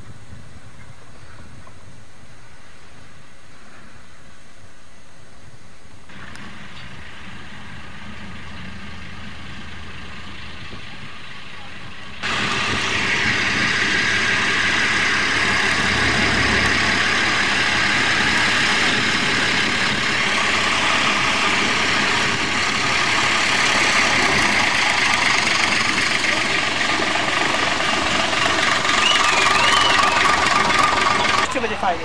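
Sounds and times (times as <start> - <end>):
diesel locomotive engine: 6.1 - 32.0
train rolling along track: 6.1 - 32.0.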